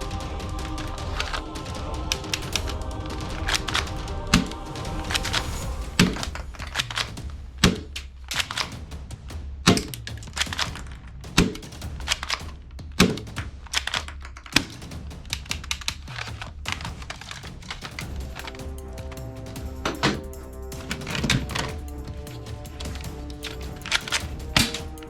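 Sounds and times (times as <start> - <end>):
music with heavy low beat: 0.0 - 25.0
rapid clicking and tapping: 0.0 - 25.0.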